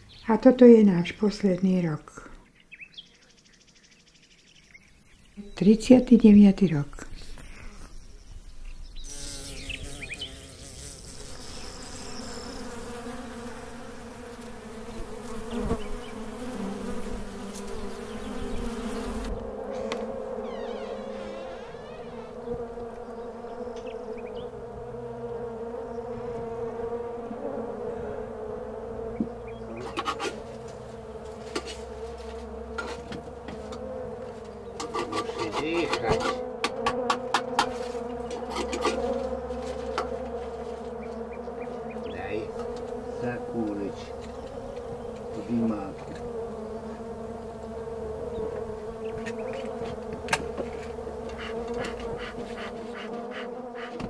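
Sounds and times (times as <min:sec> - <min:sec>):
honeybees buzzing: 0:02.8 - 0:54.0.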